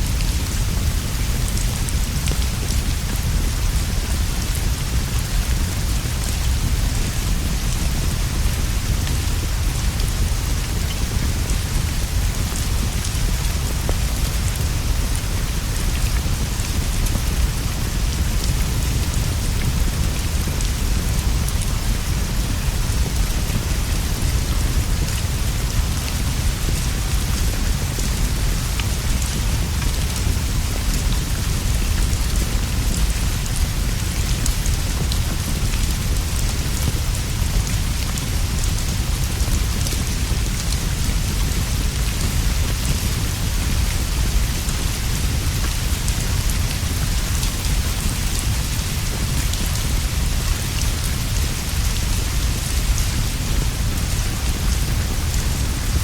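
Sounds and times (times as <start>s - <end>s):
heavy rain on leaves and roof: 0.0s - 56.0s.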